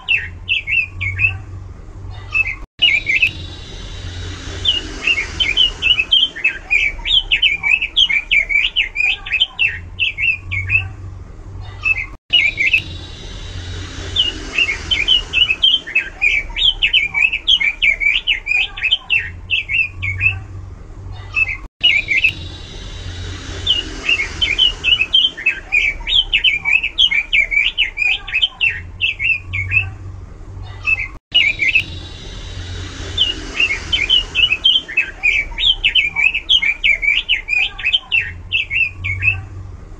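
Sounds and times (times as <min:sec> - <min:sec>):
bird singing warbling notes: 0:02.4 - 0:10.9, 0:11.9 - 0:20.4, 0:21.4 - 0:29.8, 0:30.9 - 0:39.4.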